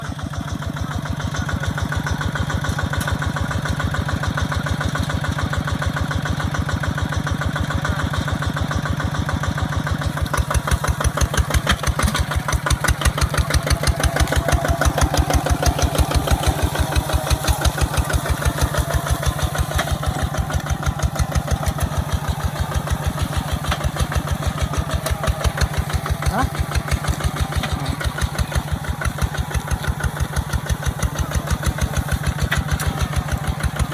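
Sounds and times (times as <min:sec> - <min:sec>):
diesel engine chugging: 0:00.0 - 0:33.9.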